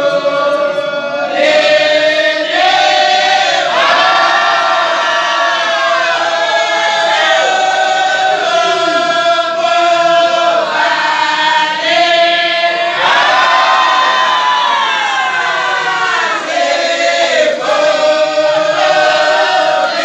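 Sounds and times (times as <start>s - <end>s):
group chanting in unison: 0.0s - 20.0s.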